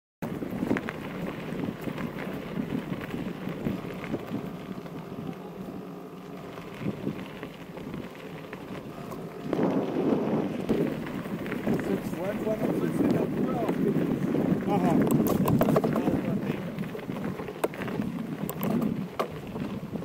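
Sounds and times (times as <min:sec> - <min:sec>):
bike clicks and rattles: 0:00.2 - 0:20.0
bike tyres crunching on gravel: 0:00.2 - 0:20.0.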